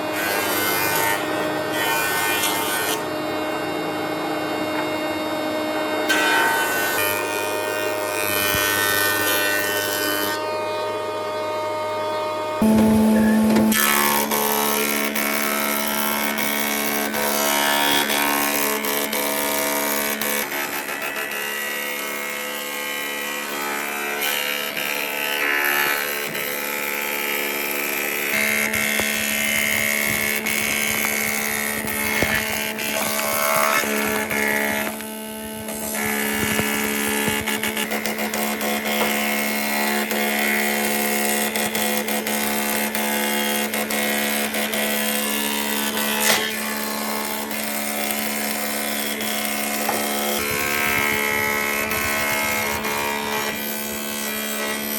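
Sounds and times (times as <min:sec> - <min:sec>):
power tool motor humming: 0:04.6 - 0:10.6, 0:12.6 - 0:54.9
tool working on wood: 0:05.7 - 0:10.5, 0:12.6 - 0:54.9.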